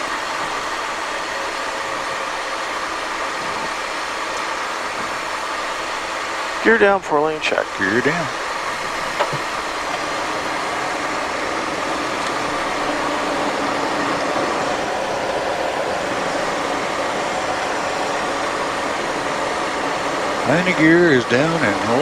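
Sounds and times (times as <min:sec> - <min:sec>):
jet cockpit airflow and engine noise: 0:00.0 - 0:22.0.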